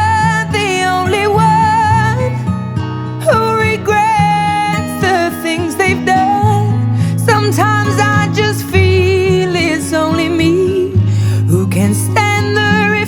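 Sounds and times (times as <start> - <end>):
slow acoustic guitar song: 0.0 - 13.0.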